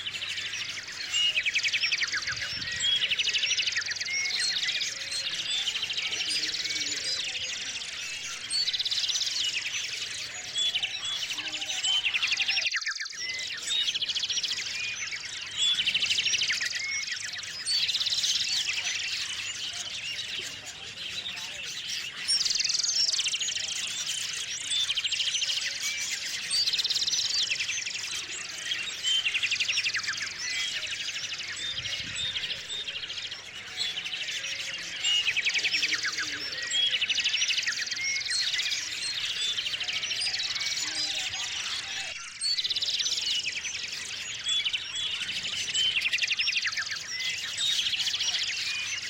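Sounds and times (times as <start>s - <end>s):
songbirds chirping and trilling: 0.0s - 49.0s.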